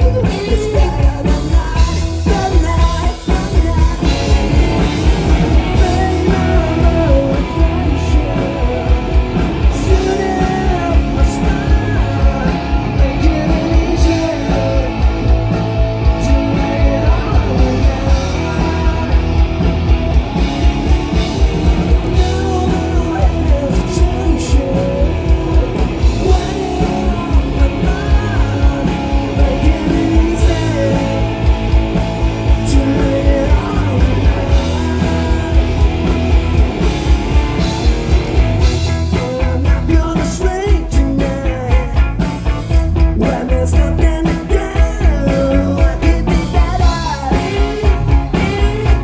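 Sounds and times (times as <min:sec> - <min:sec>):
man singing: 0:00.0 - 0:19.7, 0:22.1 - 0:36.2, 0:38.8 - 0:49.0
bass guitar: 0:00.0 - 0:49.0
drum kit beat: 0:00.0 - 0:49.0
electric guitars: 0:00.0 - 0:49.0.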